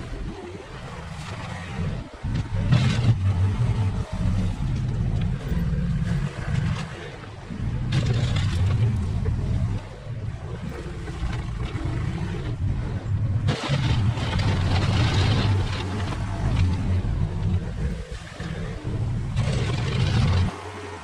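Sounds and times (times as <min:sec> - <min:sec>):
earth-moving machine engine rumbling: 0:00.0 - 0:21.0.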